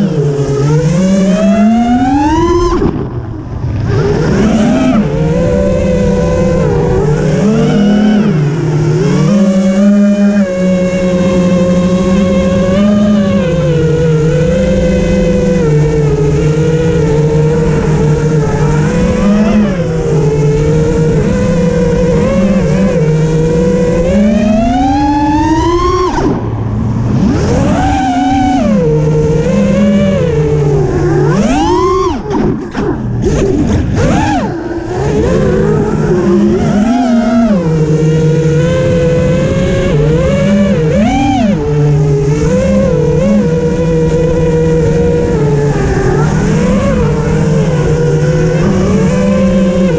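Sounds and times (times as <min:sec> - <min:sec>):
vehicle engine revving: 0:00.0 - 0:49.9
wind rumble on microphone: 0:00.0 - 0:49.9.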